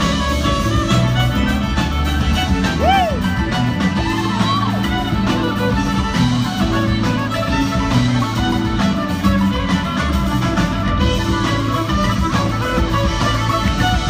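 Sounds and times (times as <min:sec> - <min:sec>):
fiddle: 0:00.0 - 0:14.0
live band music: 0:00.0 - 0:14.0.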